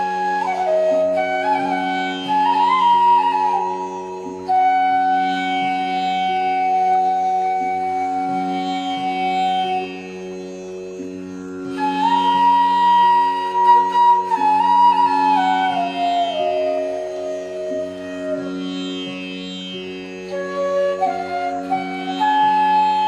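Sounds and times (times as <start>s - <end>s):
flute-like melody: 0.0s - 23.0s.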